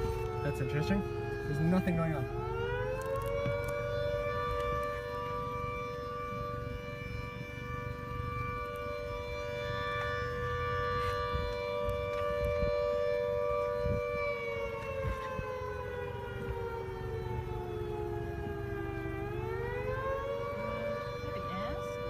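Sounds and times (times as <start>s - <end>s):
siren two-note tone: 0.0s - 22.0s.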